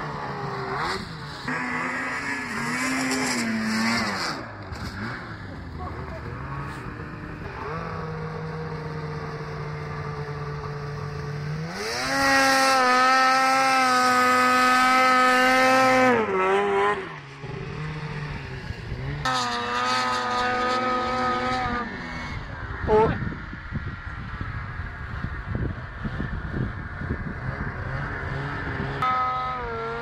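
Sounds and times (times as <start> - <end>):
snowmobile engine revving: 0.0 - 23.3, 25.7 - 30.0.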